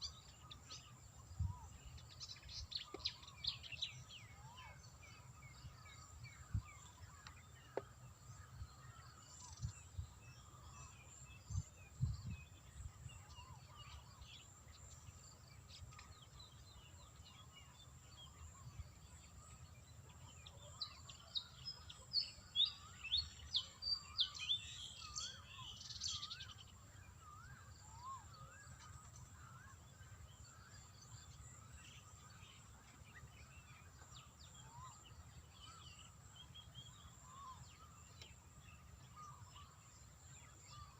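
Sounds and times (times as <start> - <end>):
birds chirping: 0.0 - 40.9
faint outdoor background: 0.0 - 40.9.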